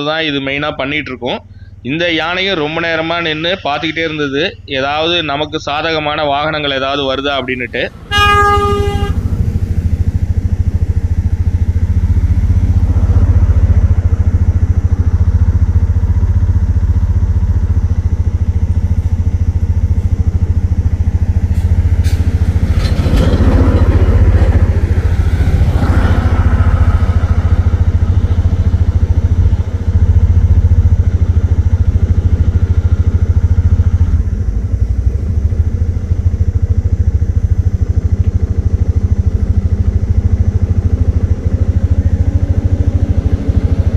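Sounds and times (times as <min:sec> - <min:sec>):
small engine running: 0:07.8 - 0:43.9.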